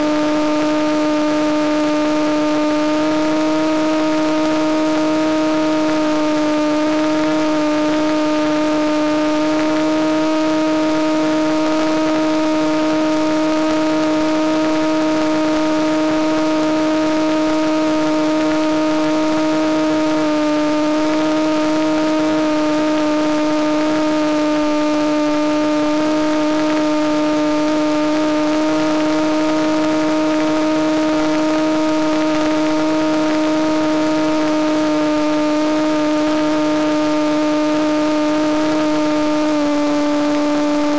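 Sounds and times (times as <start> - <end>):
model airplane motor whine: 0.0 - 40.9.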